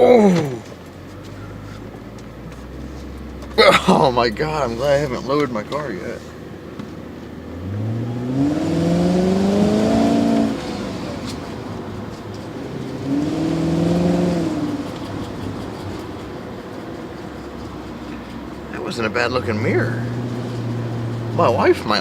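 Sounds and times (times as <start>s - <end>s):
engine accelerating: 0.0s - 22.0s.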